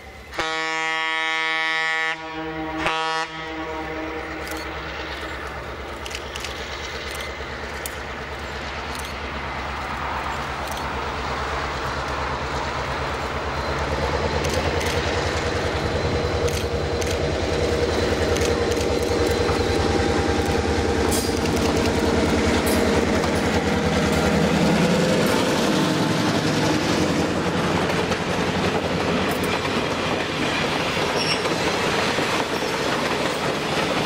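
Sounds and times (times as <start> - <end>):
diesel locomotive engine drone: 0.0 - 34.0
wheels clicking over rail joints: 4.4 - 25.5, 27.0 - 34.0.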